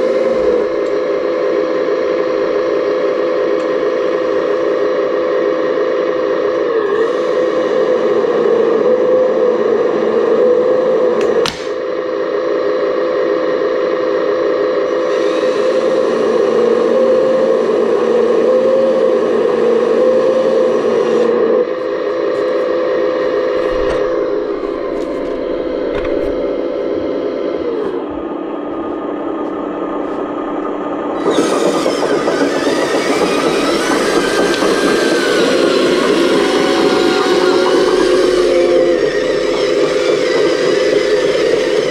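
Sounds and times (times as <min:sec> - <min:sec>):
electric motor whine: 0:00.0 - 0:41.9.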